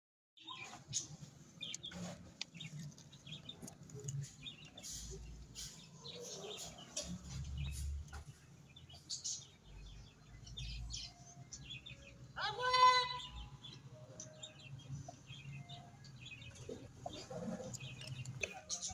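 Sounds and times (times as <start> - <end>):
birds chirping: 0.4 - 18.9.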